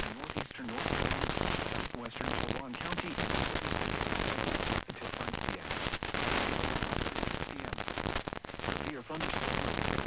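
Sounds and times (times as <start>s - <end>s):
harsh crackling static: 0.0s - 10.0s.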